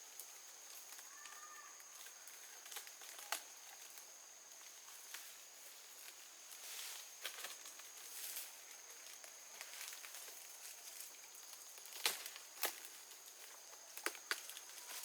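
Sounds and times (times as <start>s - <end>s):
rustling in undergrowth: 0.0s - 15.0s.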